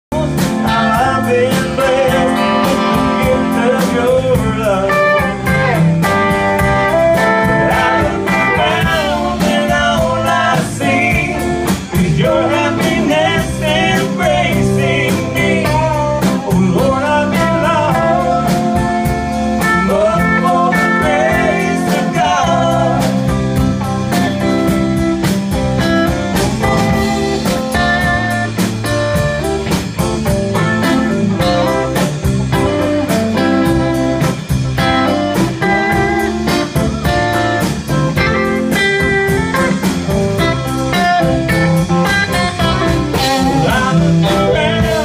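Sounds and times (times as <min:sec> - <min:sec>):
live rock band playing: 0:00.1 - 0:45.0.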